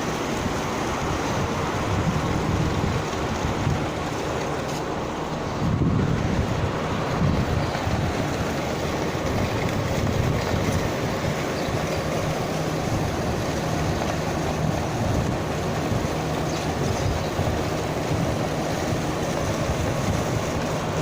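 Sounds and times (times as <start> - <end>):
machinery low rumble: 0.0 - 21.0.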